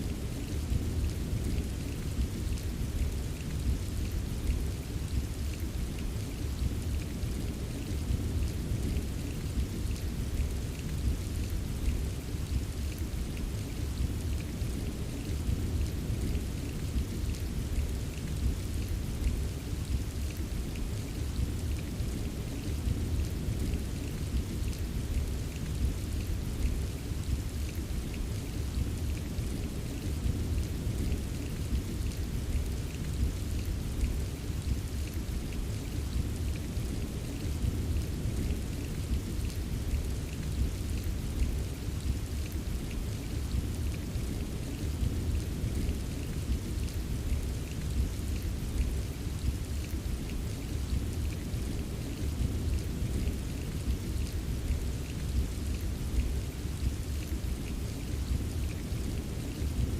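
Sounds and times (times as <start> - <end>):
steady rain: 0.0 - 59.9
raindrops ticking: 0.3 - 59.9.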